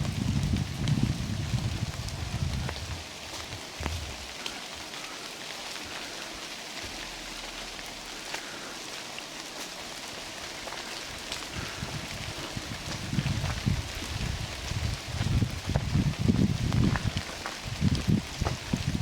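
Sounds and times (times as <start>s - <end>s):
drips ticking on leaves: 0.0s - 19.0s
rain falling through forest: 0.0s - 19.0s.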